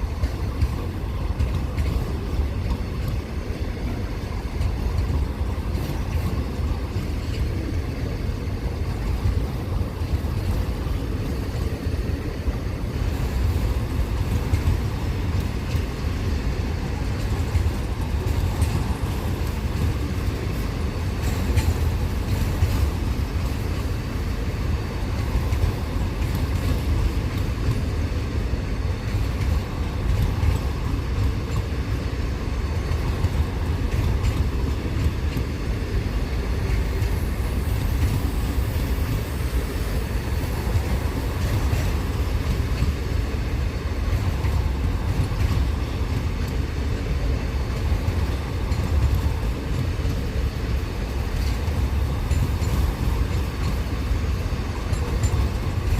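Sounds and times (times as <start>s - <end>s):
freight train rumbling by: 0.0s - 55.9s.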